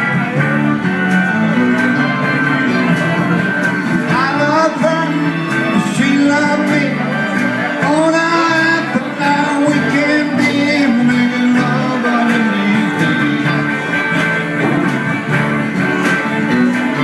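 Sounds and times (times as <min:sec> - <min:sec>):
live band with electric guitars: 0:00.0 - 0:17.0.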